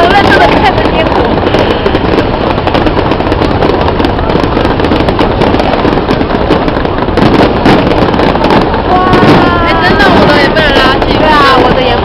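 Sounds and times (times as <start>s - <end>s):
fireworks crackling and popping: 0.0s - 12.0s
loud rumble of firework bursts: 0.0s - 12.0s.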